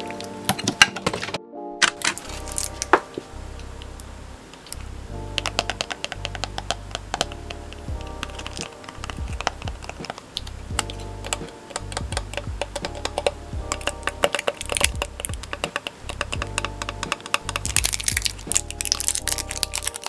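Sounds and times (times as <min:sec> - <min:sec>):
background music with steady beat: 0:00.0 - 0:20.0.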